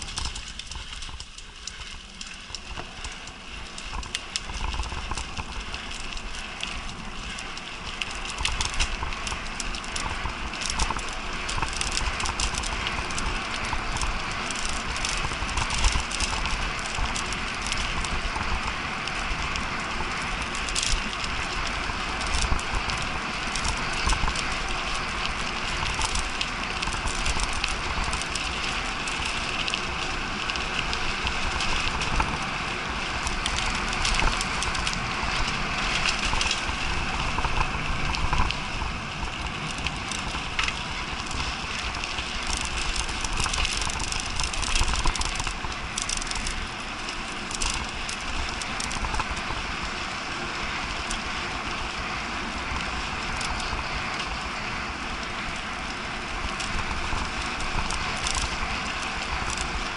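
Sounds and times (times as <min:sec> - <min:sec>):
bike rattling and clicking: 0:00.0 - 0:59.9
bike tyres crunching on dirt: 0:00.0 - 0:59.9.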